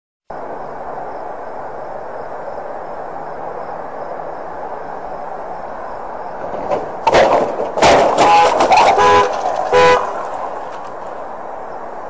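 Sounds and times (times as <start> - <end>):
train rumbling: 0.3 - 12.0.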